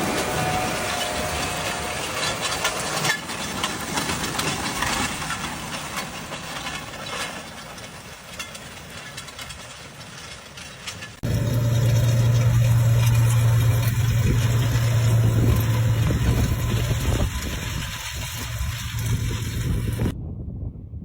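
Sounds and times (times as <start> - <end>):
tractor engine and machinery: 0.0 - 20.2.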